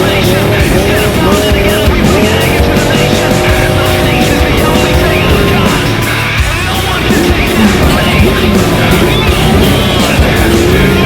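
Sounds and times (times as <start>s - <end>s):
loud hard rock music: 0.0s - 11.0s.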